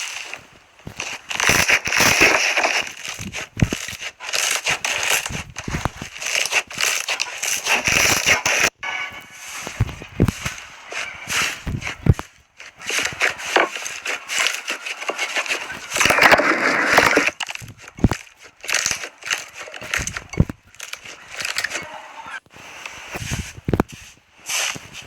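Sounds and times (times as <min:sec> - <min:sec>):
slime crackling and popping: 0:00.0 - 0:08.8, 0:09.6 - 0:21.8.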